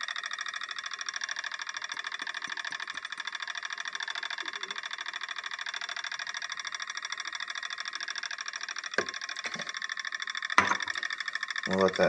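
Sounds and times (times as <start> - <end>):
magnetic stirrer whine: 0.0 - 12.0.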